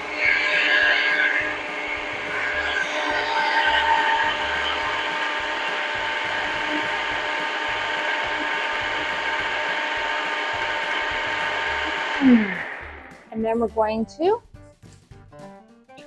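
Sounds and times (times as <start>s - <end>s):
blender motor running: 0.0s - 13.3s.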